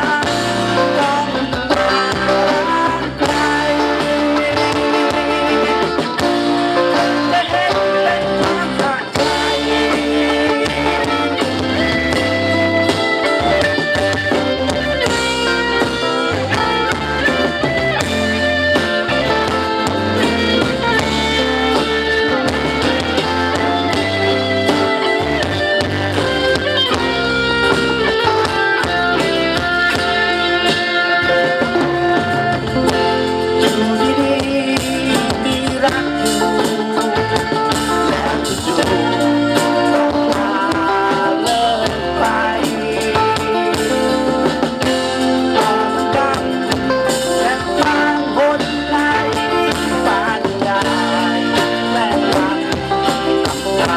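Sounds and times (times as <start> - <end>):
bass guitar: 0.0 - 53.9
electric guitar: 0.0 - 53.9.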